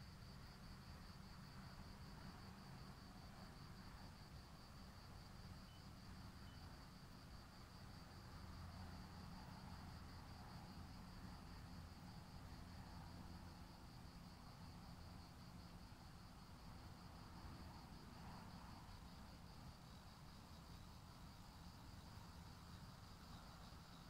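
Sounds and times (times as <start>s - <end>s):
crickets chirring: 0.2s - 24.0s.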